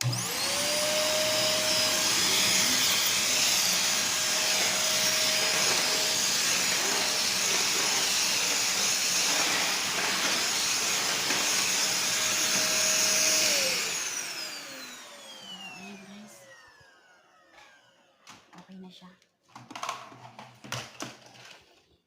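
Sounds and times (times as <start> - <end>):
vacuum cleaner motor running: 0.0 - 18.5.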